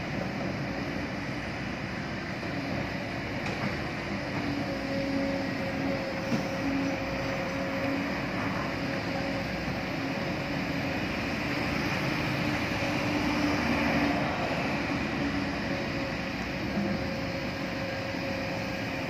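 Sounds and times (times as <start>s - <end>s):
diesel machinery running: 0.0s - 19.0s
excavator working: 0.0s - 19.0s.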